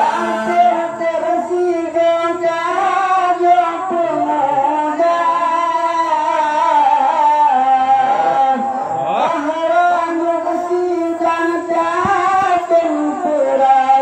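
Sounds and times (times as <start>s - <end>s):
man singing into a microphone: 0.0s - 14.0s.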